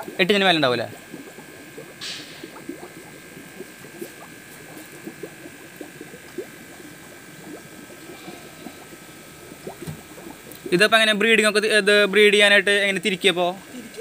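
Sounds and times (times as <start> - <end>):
aquarium air bubbling: 0.0 - 14.0
faint steady whine: 0.0 - 14.0.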